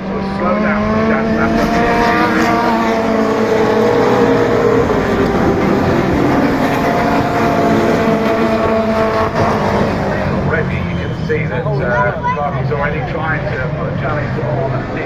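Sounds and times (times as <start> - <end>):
race car engines at high revs: 0.0 - 15.0.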